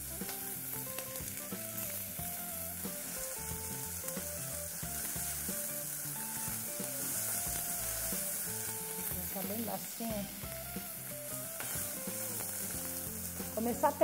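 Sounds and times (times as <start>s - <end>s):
onion sizzling in oil: 0.0s - 14.0s
soft background music: 0.0s - 14.0s.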